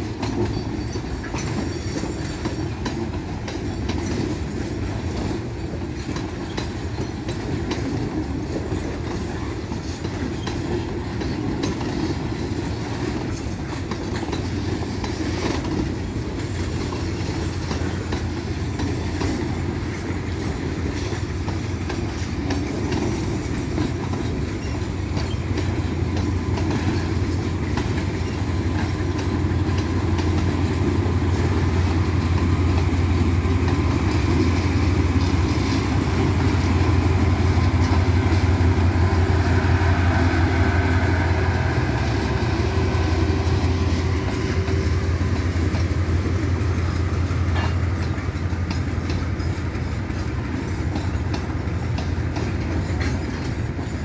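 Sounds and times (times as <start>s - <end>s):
freight train wheels clicking: 0.0s - 54.0s
low locomotive engine drone: 0.0s - 54.0s.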